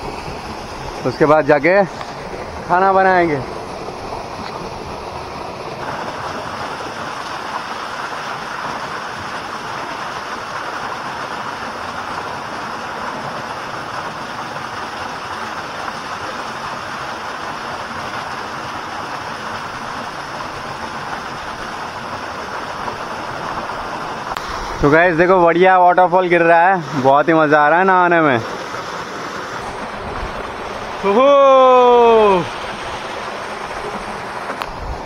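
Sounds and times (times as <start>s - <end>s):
waterfall splashing: 0.0s - 35.0s.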